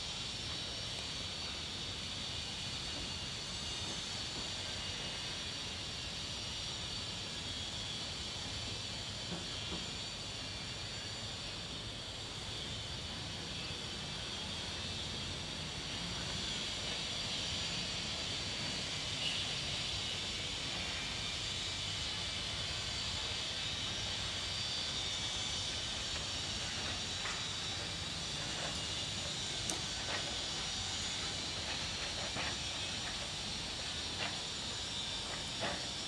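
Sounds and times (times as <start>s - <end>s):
hiss: 0.0s - 36.0s.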